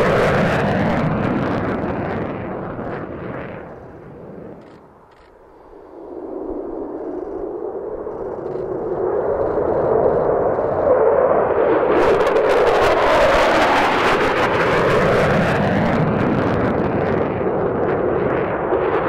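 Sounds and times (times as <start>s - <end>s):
fighter jet passing low: 0.0s - 19.0s.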